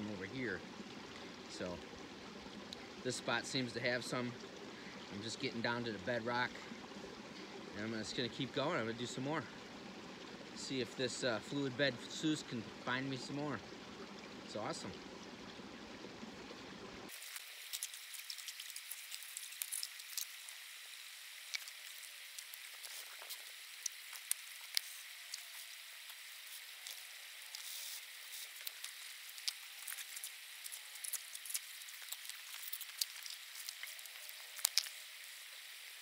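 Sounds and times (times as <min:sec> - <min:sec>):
creek water running: 0:00.0 - 0:36.0.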